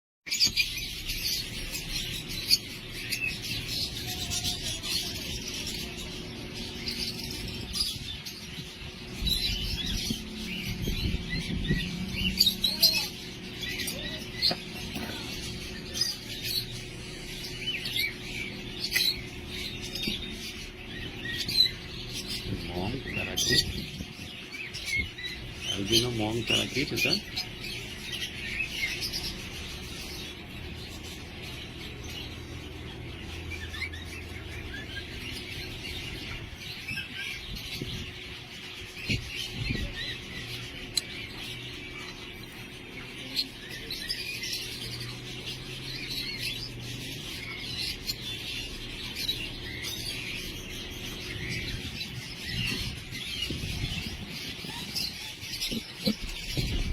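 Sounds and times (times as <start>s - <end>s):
birds chirping: 0.2s - 56.9s.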